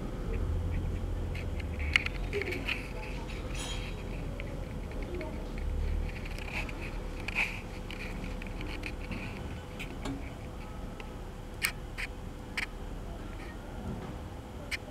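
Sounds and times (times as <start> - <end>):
low background hum: 0.0 - 14.9.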